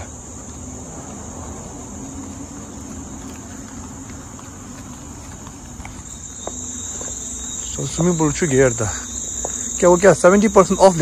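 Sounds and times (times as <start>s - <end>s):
crickets chirring: 0.0s - 11.0s
faint footsteps on pavement: 0.0s - 11.0s.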